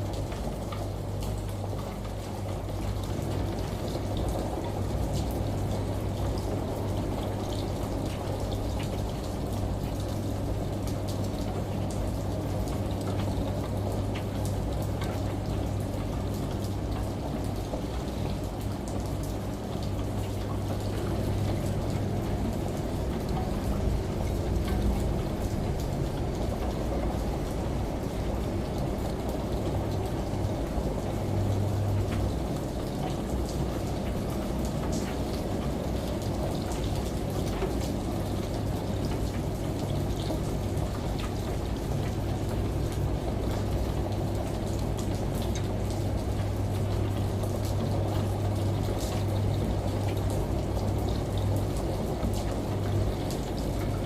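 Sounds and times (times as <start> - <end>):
steady rain: 0.0 - 54.0
washing machine hum: 0.0 - 54.0
shower water rushing: 0.2 - 54.0.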